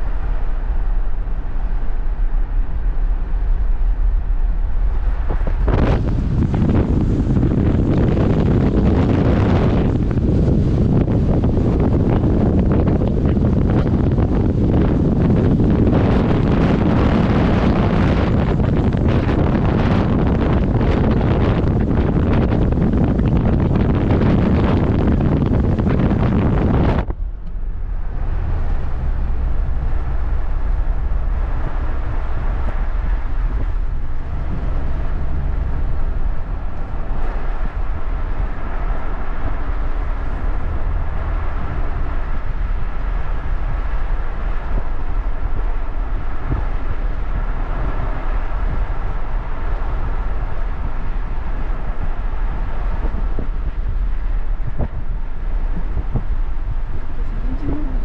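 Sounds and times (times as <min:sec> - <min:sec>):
faint hum: 0:00.0 - 0:58.0
vehicle engine rumble: 0:00.0 - 0:58.0.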